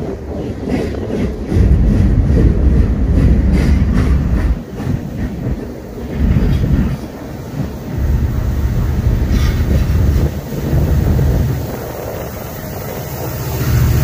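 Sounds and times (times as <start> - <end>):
freight train rumbling past: 0.0 - 14.0
wheels clicking over rails: 0.0 - 14.0.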